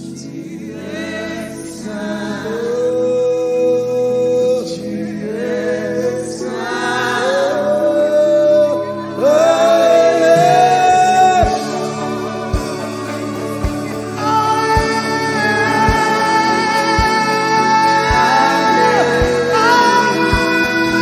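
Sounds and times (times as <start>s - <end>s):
person singing long notes: 0.0s - 21.0s
sustained backing chords: 0.0s - 21.0s.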